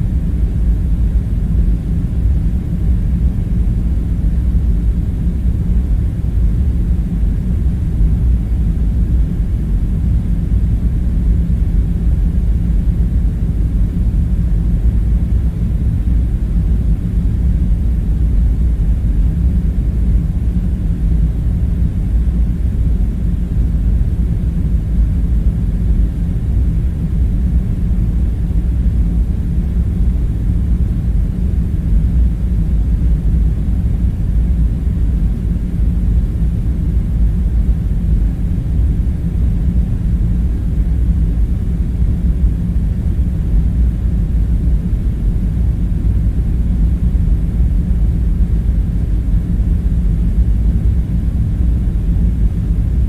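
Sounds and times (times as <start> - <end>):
low rumble with faint hum: 0.0 - 53.0.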